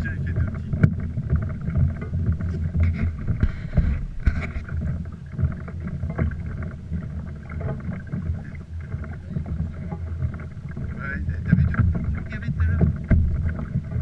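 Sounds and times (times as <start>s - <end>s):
small knocks: 0.0s - 14.0s
wind rumble on microphone: 0.0s - 14.0s.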